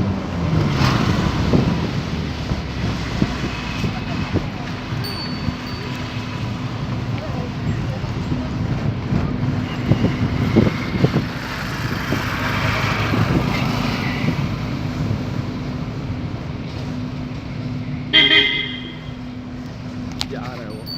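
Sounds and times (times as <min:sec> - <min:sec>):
loud car exhaust running: 0:00.0 - 0:20.9.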